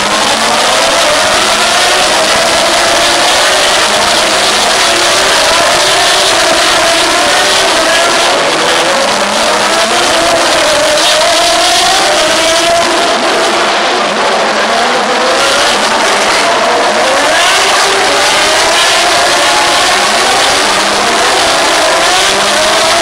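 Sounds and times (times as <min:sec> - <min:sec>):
race car engines accelerating: 0:00.0 - 0:23.0.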